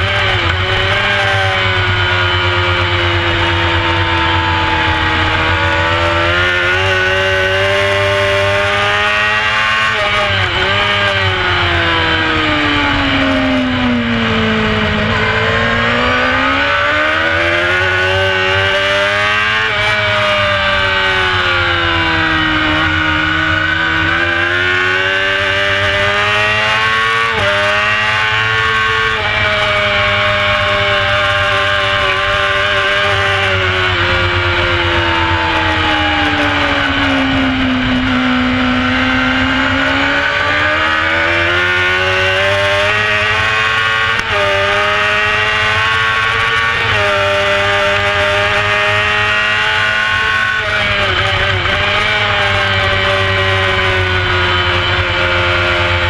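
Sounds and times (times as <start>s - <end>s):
motorcycle engine at full throttle: 0.0s - 56.0s.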